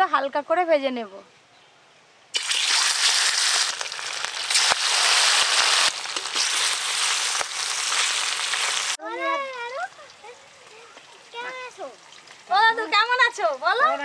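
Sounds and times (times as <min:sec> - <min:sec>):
fish sizzling in hot oil: 0:02.4 - 0:13.8
oil popping and crackling: 0:02.4 - 0:14.0.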